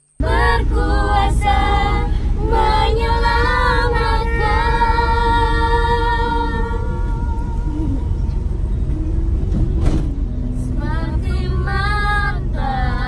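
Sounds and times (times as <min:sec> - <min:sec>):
vehicle rumble: 0:00.0 - 0:13.0
children and women singing: 0:00.2 - 0:08.3, 0:10.6 - 0:13.0.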